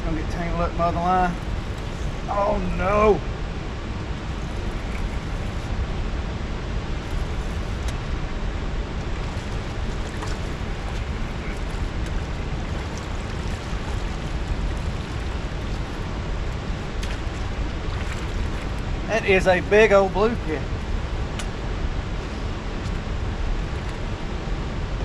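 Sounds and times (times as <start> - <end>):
running water: 0.0 - 6.2, 6.8 - 24.6
wind: 0.0 - 25.0.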